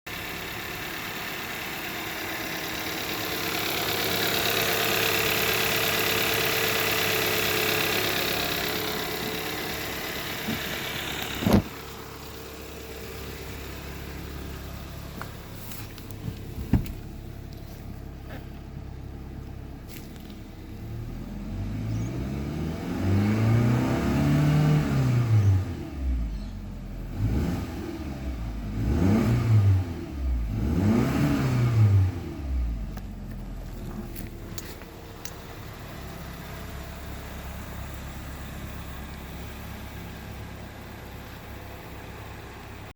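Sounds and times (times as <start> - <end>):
car engine running and revving: 0.1 - 42.9.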